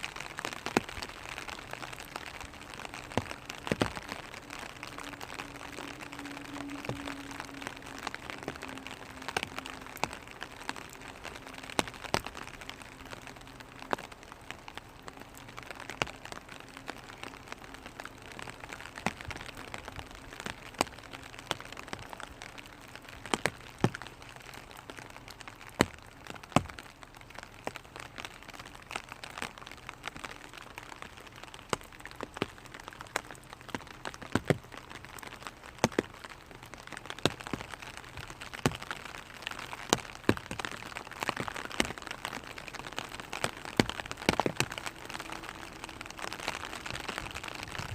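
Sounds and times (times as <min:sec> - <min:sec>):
raindrops pattering on umbrella: 0:00.0 - 0:47.9.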